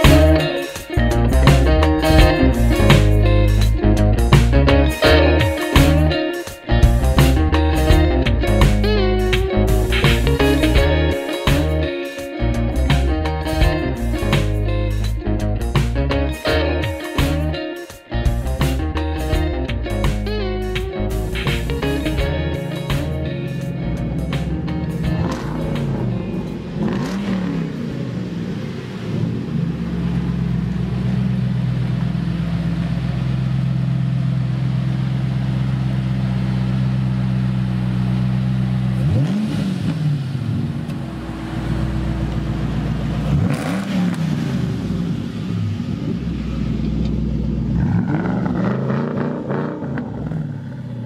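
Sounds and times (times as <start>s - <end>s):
car engine idling and revving: 0.0s - 17.6s, 18.2s - 51.0s.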